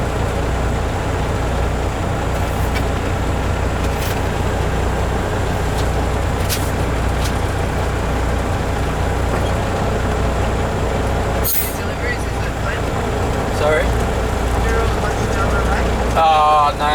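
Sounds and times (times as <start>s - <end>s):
diesel truck engine droning: 0.0s - 16.9s.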